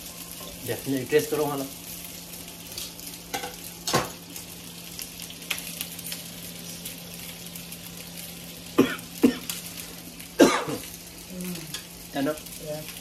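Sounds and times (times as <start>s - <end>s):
low even hum: 0.0s - 13.0s
sizzling hiss: 0.0s - 13.0s.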